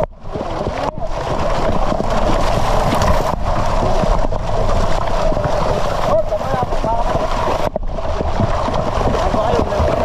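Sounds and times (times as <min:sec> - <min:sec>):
fish splashing at water surface: 0:00.0 - 0:10.0.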